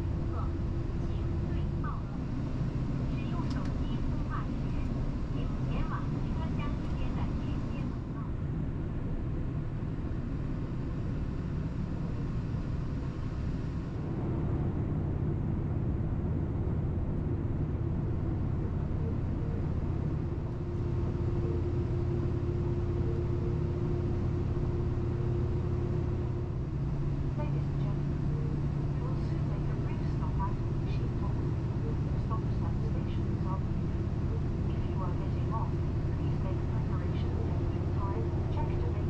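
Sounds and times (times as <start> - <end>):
steady hum: 0.0 - 39.0
train rumbling: 0.0 - 39.0.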